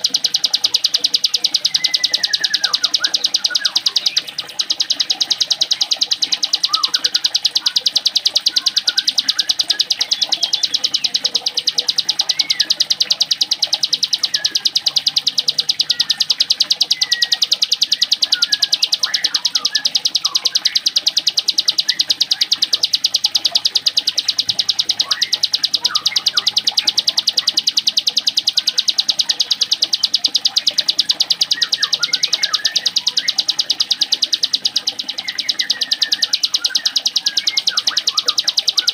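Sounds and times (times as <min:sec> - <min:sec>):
bird chirps: 0:00.0 - 0:38.9
bird's fast high rattling song: 0:00.0 - 0:38.9.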